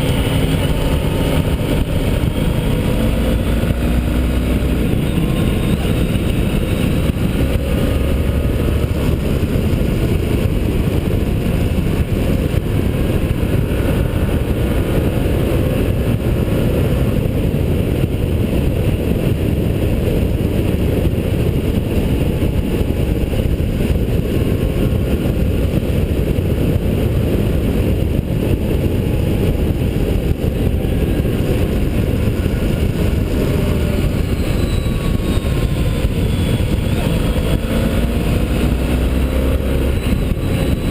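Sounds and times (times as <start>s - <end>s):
motorcycle engine shifting gears: 0.0s - 40.9s
wind rush on microphone: 0.0s - 40.9s.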